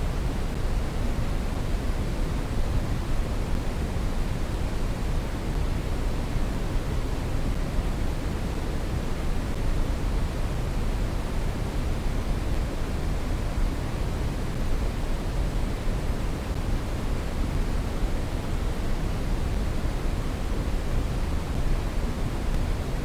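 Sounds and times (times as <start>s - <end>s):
brown noise hiss: 0.0s - 23.0s.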